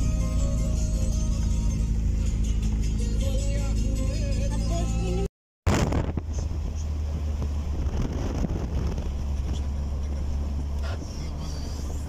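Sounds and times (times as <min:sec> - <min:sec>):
car engine and tyres drone: 0:00.0 - 0:12.0.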